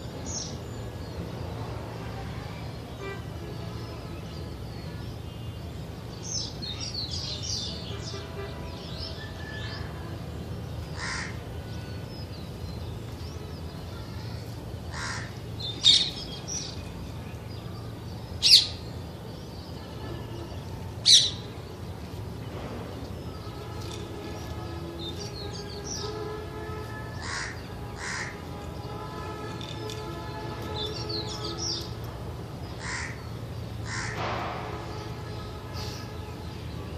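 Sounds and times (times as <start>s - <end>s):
birds chirping faintly: 0.0s - 36.9s.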